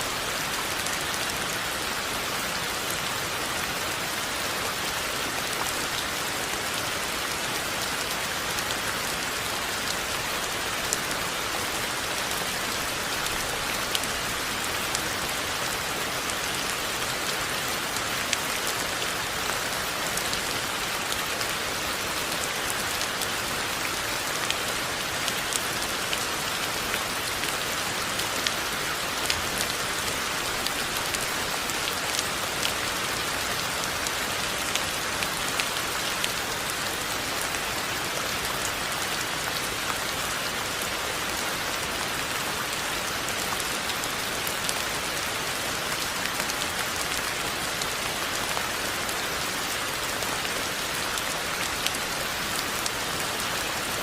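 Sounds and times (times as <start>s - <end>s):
rain drops on hard surface: 0.0s - 54.0s.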